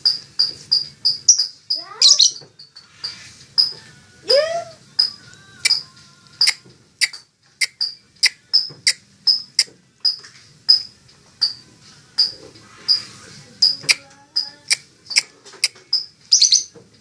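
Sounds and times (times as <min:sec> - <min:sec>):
lovebird chirping: 0:00.0 - 0:02.8, 0:03.6 - 0:05.8, 0:06.4 - 0:11.6, 0:12.2 - 0:16.8.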